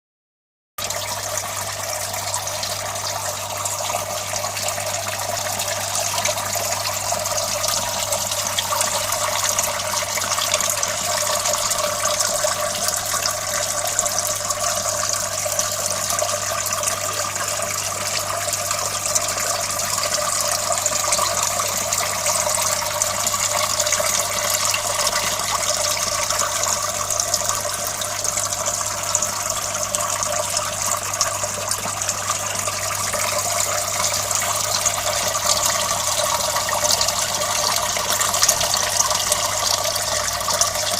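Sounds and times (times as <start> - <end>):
water running and splashing: 0.8 - 40.9.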